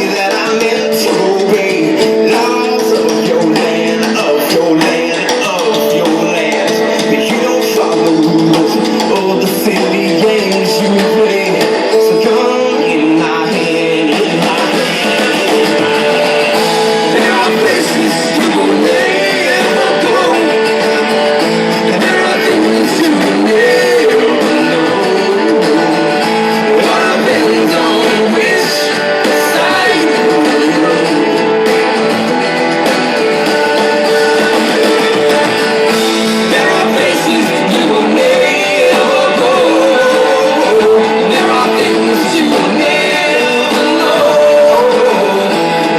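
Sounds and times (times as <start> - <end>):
man singing: 0.0 - 32.1, 34.0 - 45.9
rock band playing: 0.0 - 45.9
strummed and plucked guitar: 0.0 - 45.9.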